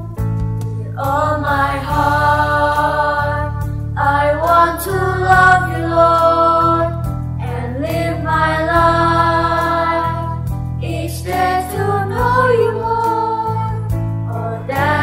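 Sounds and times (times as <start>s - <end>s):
mixed choir singing: 1.0s - 15.0s.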